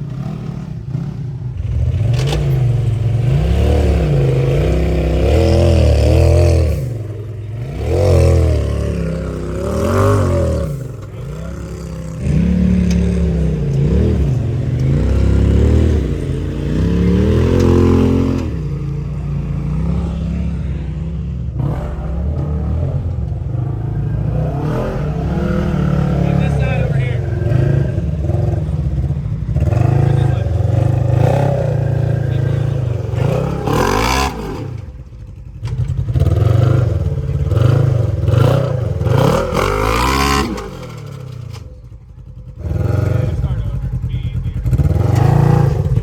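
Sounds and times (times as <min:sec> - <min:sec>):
clatter: 0:00.0 - 0:19.0, 0:24.8 - 0:46.0
utility vehicle engine revving: 0:00.0 - 0:46.0.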